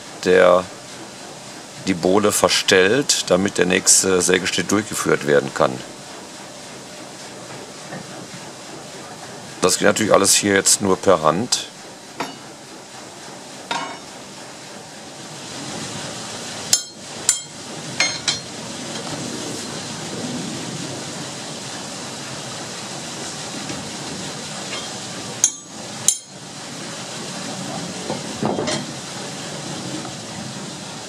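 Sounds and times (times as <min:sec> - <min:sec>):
running sawmill noise: 0:00.0 - 0:31.0.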